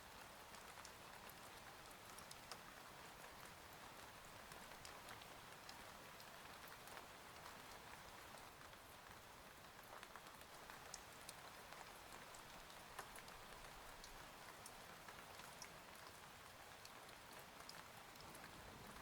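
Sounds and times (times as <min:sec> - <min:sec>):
faint rain hiss: 0:00.0 - 0:19.0.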